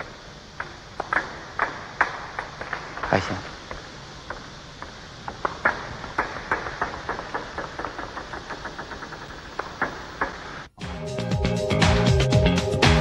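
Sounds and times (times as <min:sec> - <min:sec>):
table tennis balls clicking: 0:00.0 - 0:10.7.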